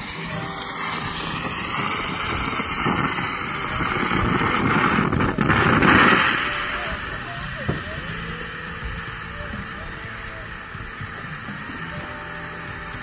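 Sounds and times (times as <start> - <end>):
firework fountain hissing: 0.0 - 13.0.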